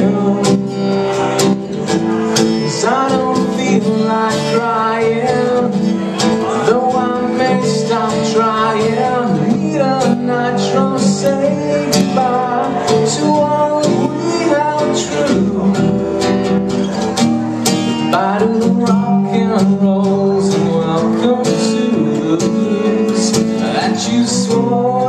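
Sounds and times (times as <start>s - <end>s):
man singing: 0.0s - 17.0s, 17.9s - 25.0s
acoustic guitars playing: 0.0s - 25.0s.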